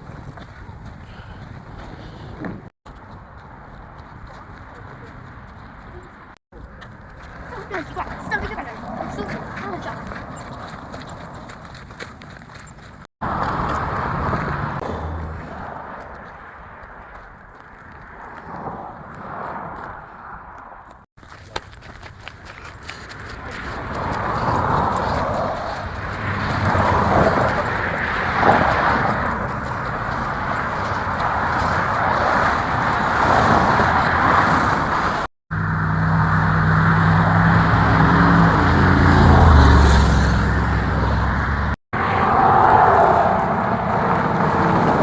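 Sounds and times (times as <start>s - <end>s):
traffic rushing: 0.0s - 21.1s, 21.8s - 45.0s
vehicle engine humming: 0.9s - 17.2s, 22.7s - 45.0s.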